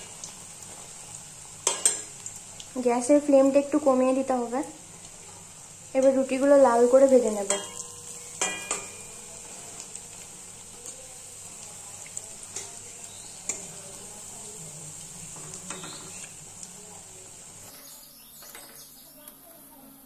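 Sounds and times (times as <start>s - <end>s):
bread sizzling in hot oil: 0.0s - 20.0s.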